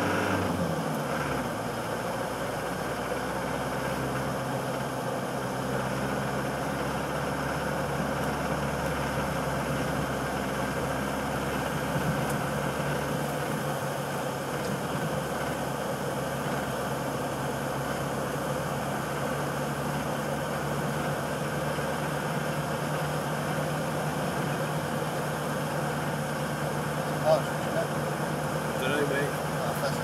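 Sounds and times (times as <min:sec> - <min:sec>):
car engine drone: 0:00.0 - 0:30.0.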